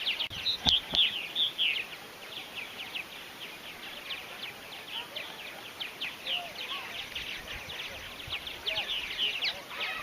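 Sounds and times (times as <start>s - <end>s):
birds chattering and chirping: 0.0s - 10.0s.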